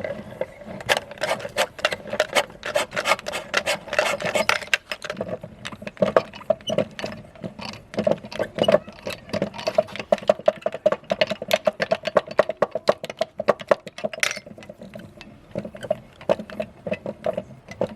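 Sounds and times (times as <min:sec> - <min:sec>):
meat grinder churning: 0:00.0 - 0:17.9.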